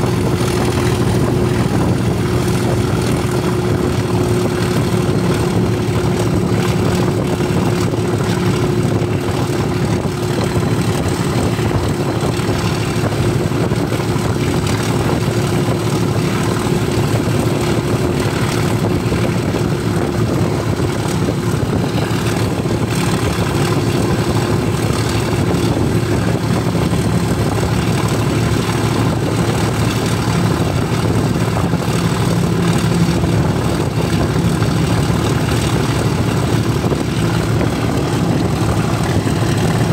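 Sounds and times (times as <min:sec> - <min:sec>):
diesel locomotive engine running: 0:00.0 - 0:39.9
wheels on rails: 0:00.0 - 0:39.9
wind rushing: 0:00.0 - 0:39.9.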